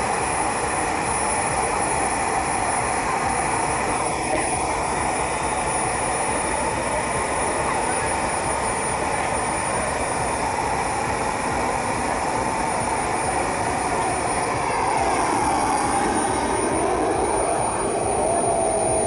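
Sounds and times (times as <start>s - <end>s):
high jet whine: 0.0s - 19.0s
small jet engine roaring: 0.0s - 19.0s.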